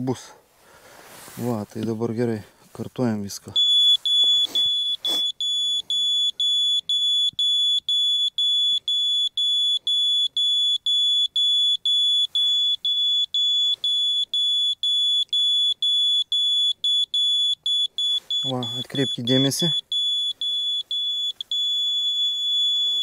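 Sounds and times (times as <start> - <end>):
laser level receiver beeping rapidly: 3.6 - 23.0.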